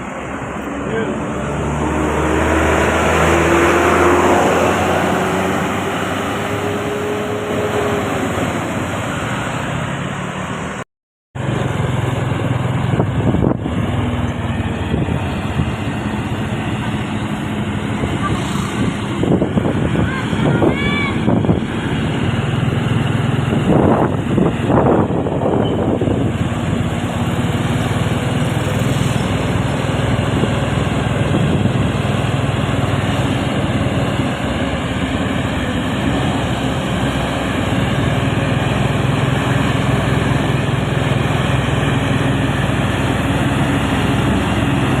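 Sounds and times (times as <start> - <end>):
road and wind noise: 0.0 - 10.8, 11.4 - 45.0
vehicle engine running: 0.0 - 10.8, 11.4 - 45.0.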